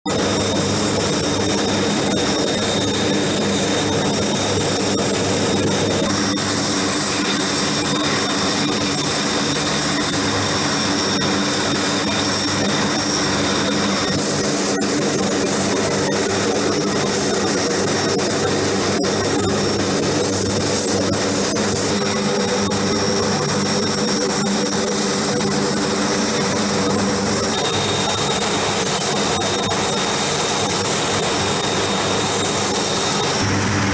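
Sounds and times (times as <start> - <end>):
jet engine running: 0.1 - 33.9.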